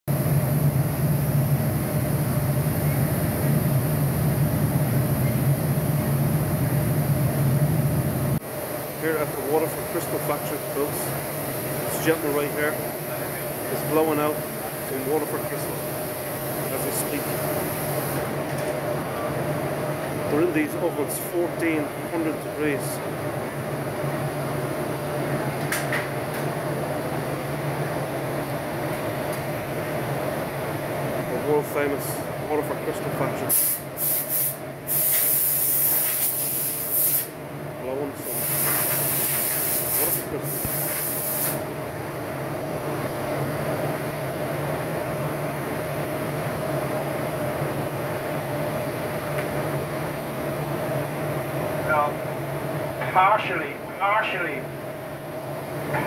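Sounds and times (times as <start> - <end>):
furnaces and fans droning: 0.1 - 56.0
machinery hum and rumble: 0.1 - 56.0.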